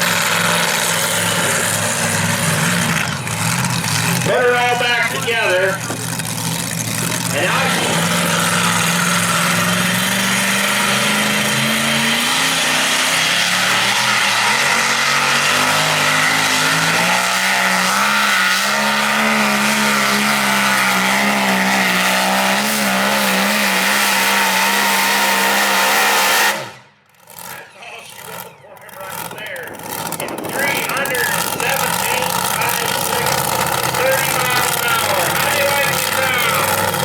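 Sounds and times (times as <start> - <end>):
engine revving under heavy load: 0.0 - 37.0.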